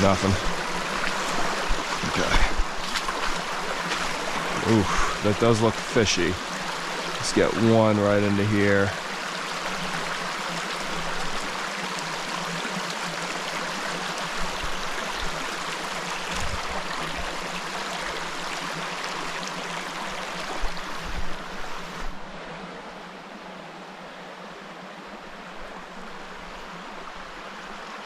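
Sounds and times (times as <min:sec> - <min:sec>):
stream rushing over rock: 0:00.0 - 0:23.1.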